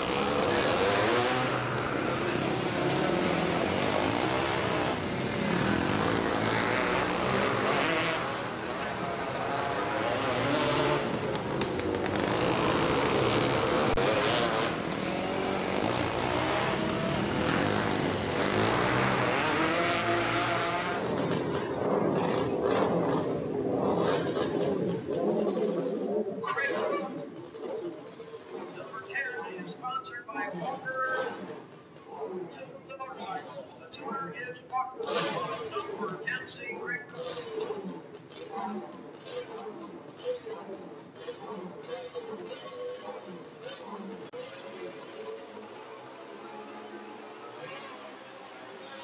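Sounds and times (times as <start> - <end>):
motorcycle engines revving: 0.0 - 49.0.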